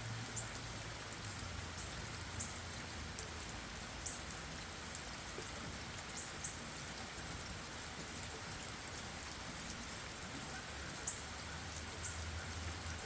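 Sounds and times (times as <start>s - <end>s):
rain on leaves and ground: 0.0s - 13.0s.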